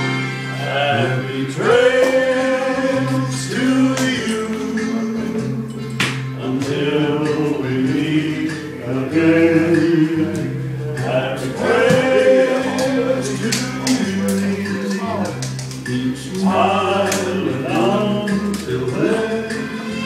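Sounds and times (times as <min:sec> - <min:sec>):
keyboard chords: 0:00.0 - 0:20.0
men singing a slow song: 0:00.6 - 0:20.0.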